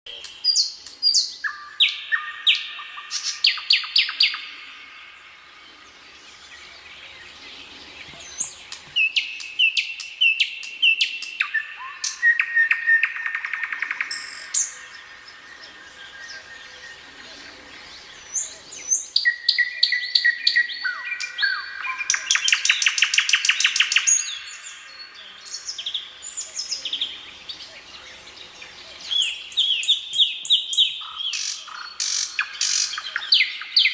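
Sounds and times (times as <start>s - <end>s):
nightingale singing: 0.1s - 33.9s.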